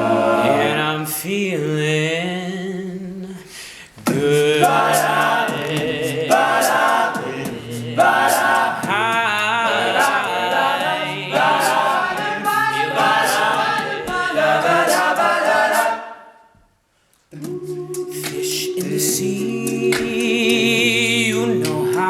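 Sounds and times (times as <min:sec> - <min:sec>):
vocal group singing in harmony: 0:00.0 - 0:16.6, 0:17.3 - 0:22.0.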